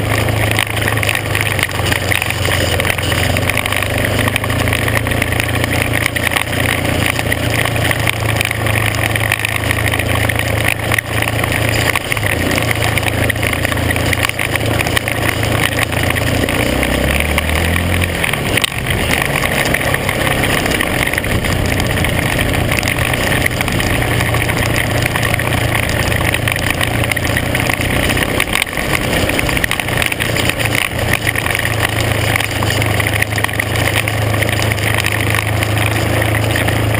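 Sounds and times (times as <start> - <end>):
off-road vehicle engine: 0.0 - 36.9
tyres rushing on gravel: 0.0 - 36.9.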